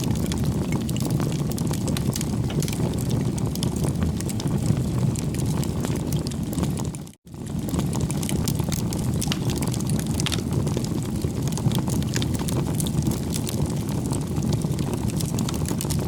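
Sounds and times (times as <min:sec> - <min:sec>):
bonfire wood crackling: 0:00.0 - 0:16.0
rumble of flame and wind: 0:00.0 - 0:16.0.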